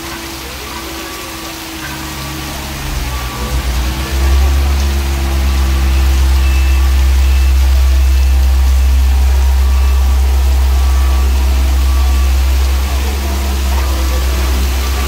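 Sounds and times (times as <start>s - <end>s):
heavy rain hissing: 0.0s - 15.0s
road roller diesel engine: 0.0s - 15.0s.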